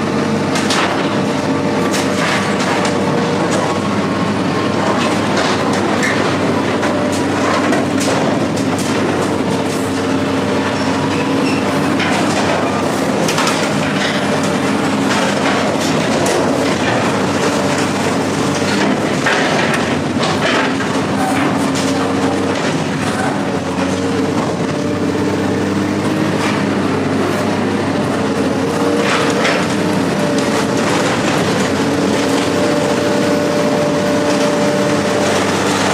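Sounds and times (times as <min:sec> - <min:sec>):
heavy engine running: 0:00.0 - 0:35.9.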